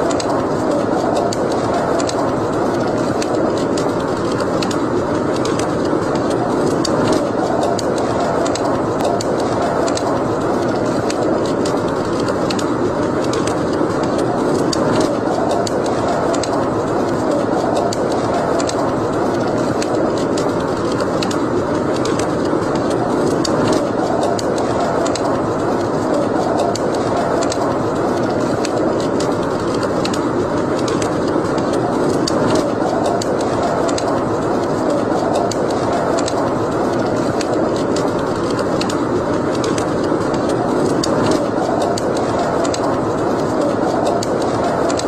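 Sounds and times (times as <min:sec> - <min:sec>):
fire crackles and pops: 0:00.0 - 0:45.0
roar of fire flames: 0:00.0 - 0:45.0.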